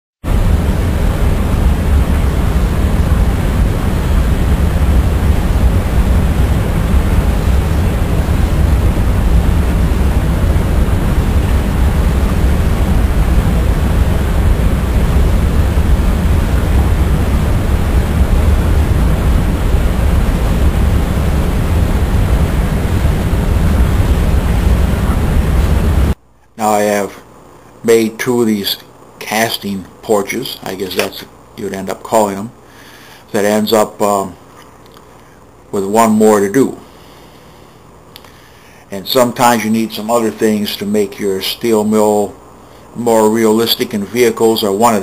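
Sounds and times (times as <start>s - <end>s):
loud low rumbling with hiss: 0.2s - 34.4s, 35.5s - 45.0s.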